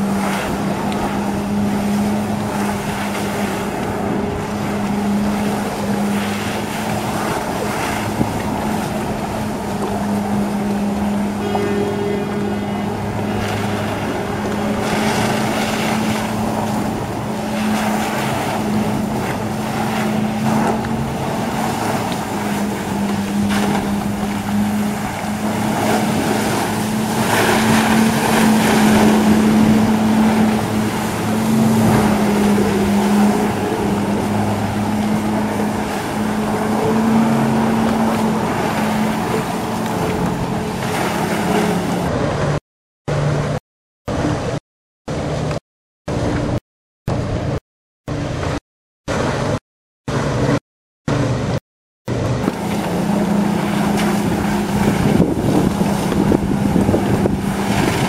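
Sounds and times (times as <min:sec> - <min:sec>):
watercraft engine running hard: 0:00.0 - 0:58.0.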